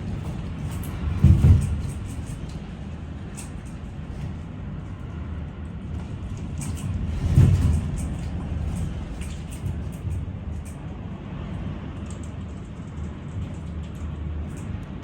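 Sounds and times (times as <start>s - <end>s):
storm wind buffeting: 0.0s - 15.0s.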